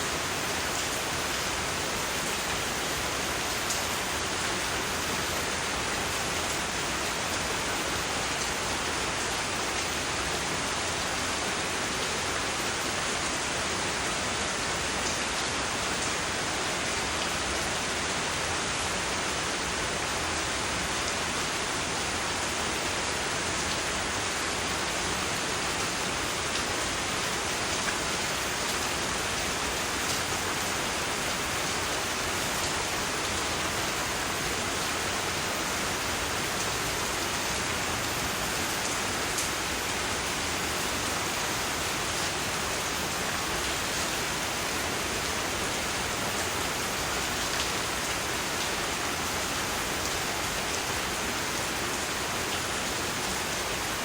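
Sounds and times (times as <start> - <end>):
dense rain hiss: 0.0 - 54.0.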